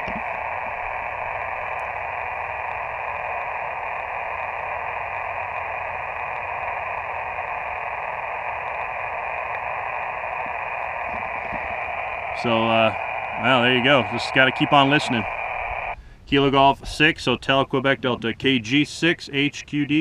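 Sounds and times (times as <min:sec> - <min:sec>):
radio receiver hiss: 0:00.0 - 0:17.6, 0:18.2 - 0:20.0.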